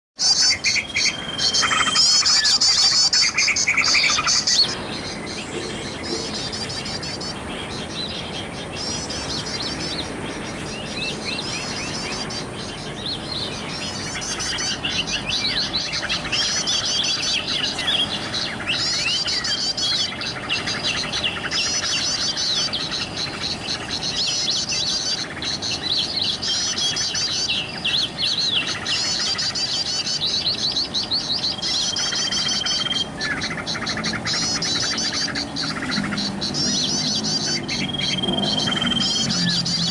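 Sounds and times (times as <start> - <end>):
bird singing chattering trills: 0.2 - 39.9.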